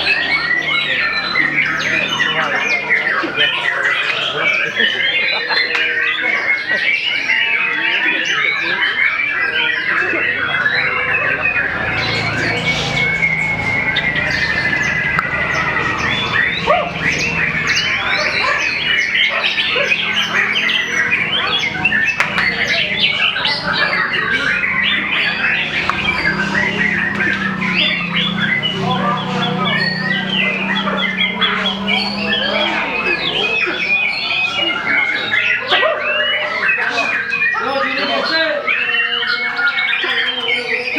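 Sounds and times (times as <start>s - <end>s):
other bird calls: 0.0s - 40.9s.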